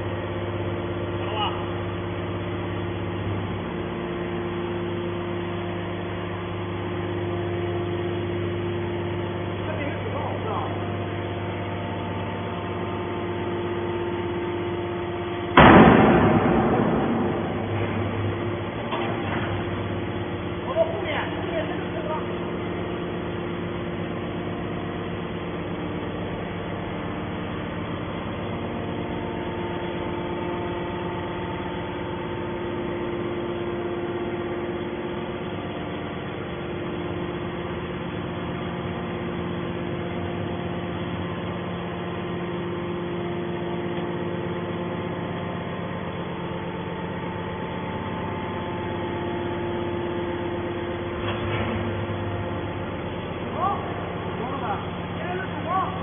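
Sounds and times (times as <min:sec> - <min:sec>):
hydraulic pump motor humming: 0:00.0 - 0:56.0.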